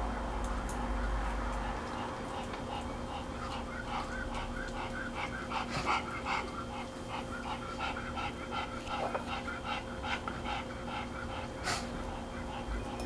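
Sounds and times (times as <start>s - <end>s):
faint electrical hum: 0.0s - 13.0s
puppy panting: 1.5s - 13.0s.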